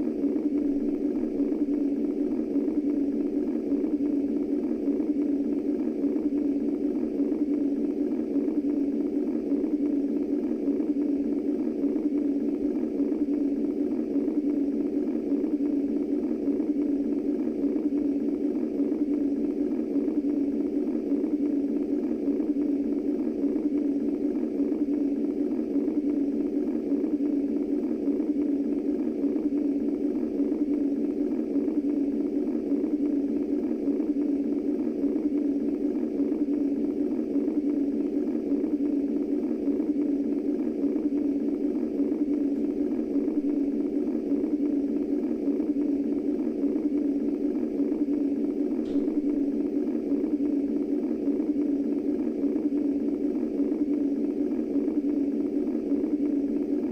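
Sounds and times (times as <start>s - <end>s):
muffled white noise rush: 0.0s - 56.9s.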